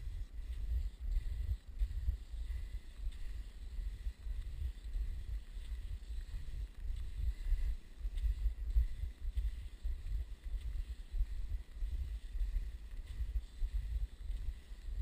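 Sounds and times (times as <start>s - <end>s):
faint hiss: 0.0s - 15.0s
wind buffeting microphone: 0.0s - 15.0s.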